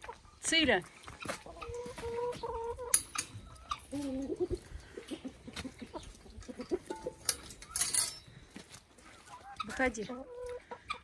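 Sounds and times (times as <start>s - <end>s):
hen clucking: 0.0s - 7.9s, 8.9s - 11.0s.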